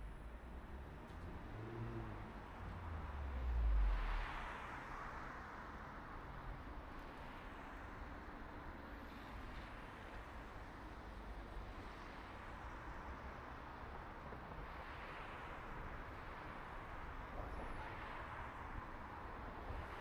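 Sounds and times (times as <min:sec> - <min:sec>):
road traffic rumble and hiss: 0:00.0 - 0:20.0.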